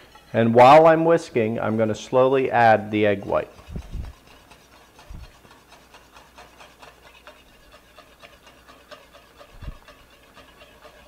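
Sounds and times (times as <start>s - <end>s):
whisk scraping a metal pan: 0.0s - 11.0s.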